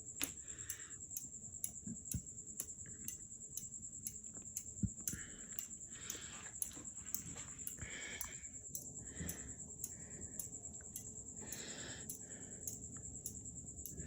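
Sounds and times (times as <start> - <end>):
ceiling fan running: 0.0 - 14.0
faint light ticking: 0.0 - 14.0.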